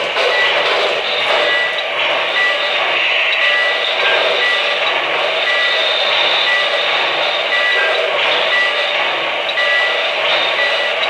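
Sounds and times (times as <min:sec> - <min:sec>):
model train wheels rumbling: 0:00.0 - 0:11.0
steam sound effects: 0:00.0 - 0:11.0.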